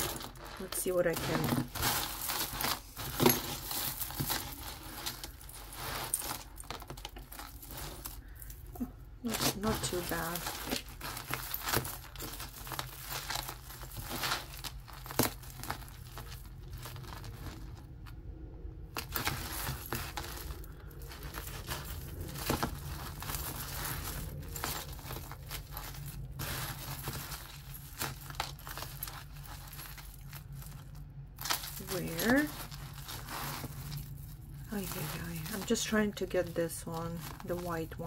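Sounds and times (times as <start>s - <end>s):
beads and chain links rattling: 0.0s - 17.9s, 19.0s - 38.0s.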